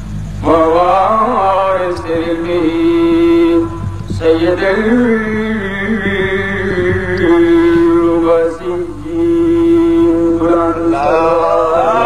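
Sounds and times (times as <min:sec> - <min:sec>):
man chanting: 0:00.4 - 0:12.0.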